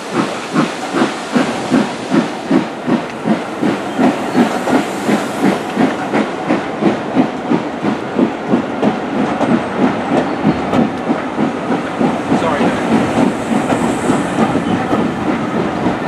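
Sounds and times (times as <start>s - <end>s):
steam train rolling past: 0.0s - 16.0s.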